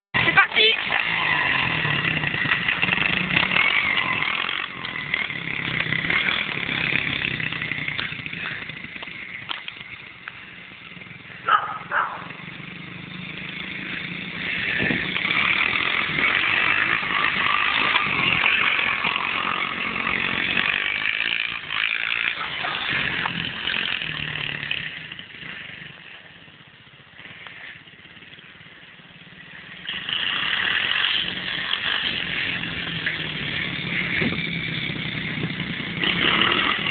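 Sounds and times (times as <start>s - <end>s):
dirt bike engine running: 0.2s - 36.9s.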